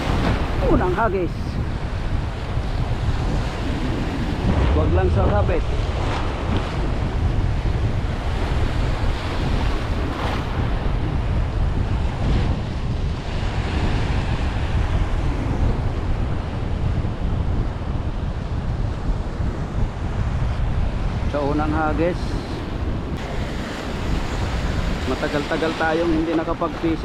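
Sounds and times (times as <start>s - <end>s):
waves breaking in surf: 0.0s - 17.0s, 20.8s - 27.0s
wind buffeting microphone: 0.0s - 27.0s.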